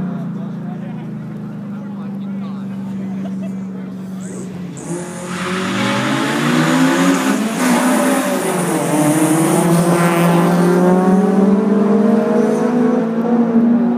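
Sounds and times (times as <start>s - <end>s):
car engines running: 0.0s - 13.9s.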